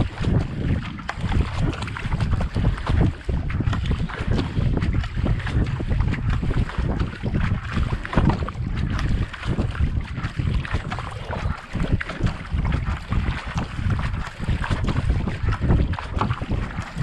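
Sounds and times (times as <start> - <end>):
paddle splashing water: 0.0 - 17.0
wind buffeting microphone: 0.0 - 17.0.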